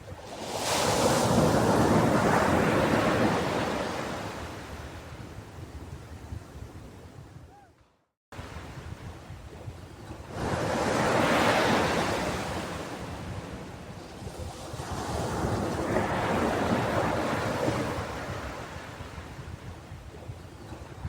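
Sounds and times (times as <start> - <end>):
ocean waves washing onto shore: 0.0 - 5.8, 8.4 - 21.0.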